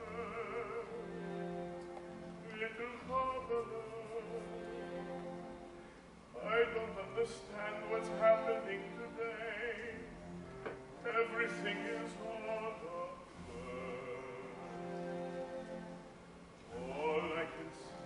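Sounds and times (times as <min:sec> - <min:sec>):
slow orchestral music: 0:00.0 - 0:18.0.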